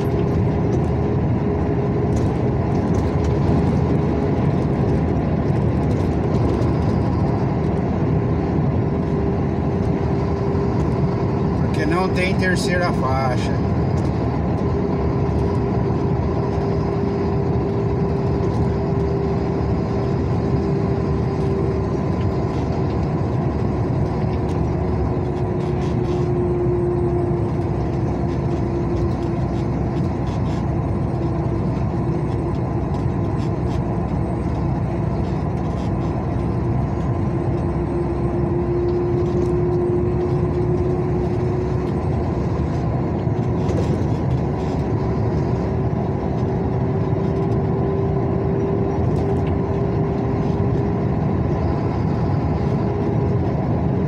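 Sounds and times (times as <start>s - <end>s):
road noise: 0.0s - 54.0s
vehicle engine hum: 0.0s - 54.0s.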